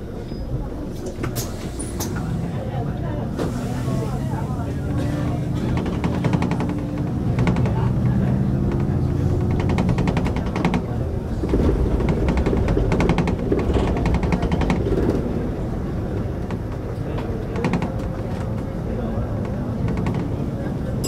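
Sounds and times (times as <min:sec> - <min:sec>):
bus body rattling: 0:00.0 - 0:21.0
bus engine running: 0:00.0 - 0:21.0.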